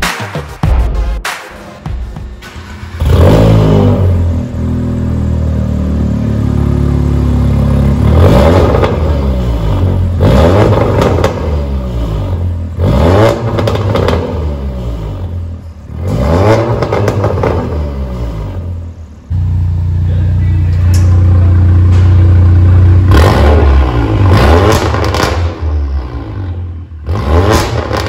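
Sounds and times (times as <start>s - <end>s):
car engine idling and revving: 1.8s - 28.0s.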